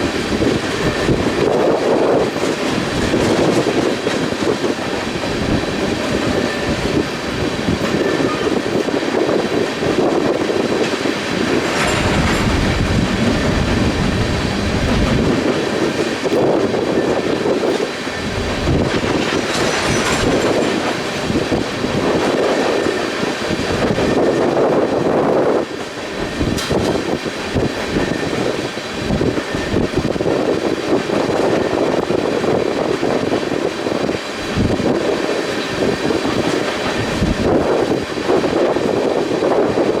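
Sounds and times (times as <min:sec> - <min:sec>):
train cars clattering over rails: 0:00.0 - 0:40.0
wind buffeting microphone: 0:00.0 - 0:40.0.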